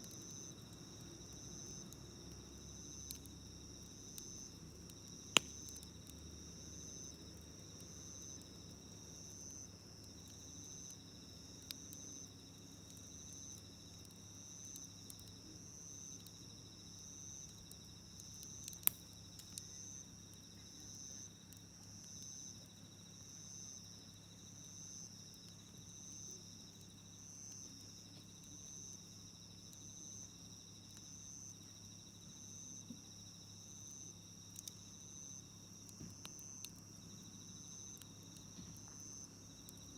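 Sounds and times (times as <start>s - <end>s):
campfire crackling: 0.0s - 39.9s
insect steady trill: 0.0s - 39.9s.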